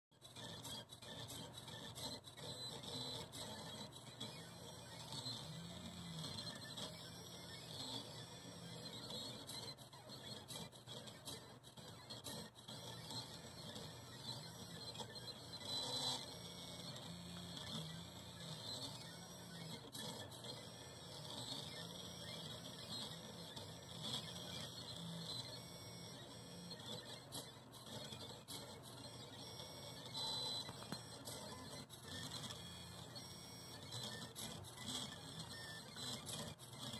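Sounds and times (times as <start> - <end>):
pen plotter motors whining: 0.1 - 36.9.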